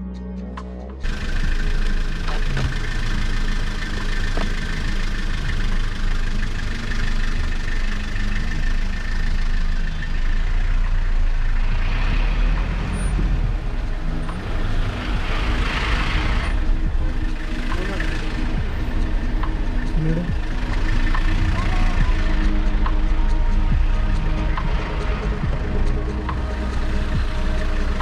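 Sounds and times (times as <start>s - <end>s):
moving road vehicle rumble: 0.0s - 28.0s.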